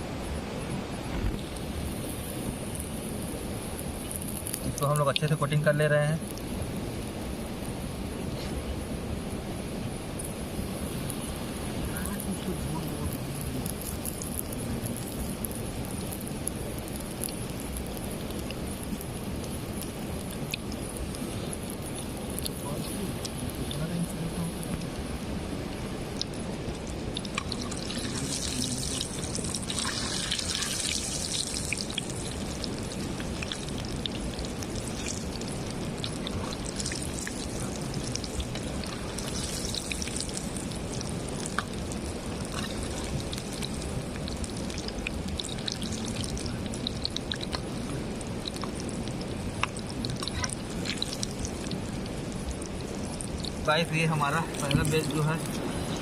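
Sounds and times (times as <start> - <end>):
food deep-frying in oil: 0.0 - 56.0.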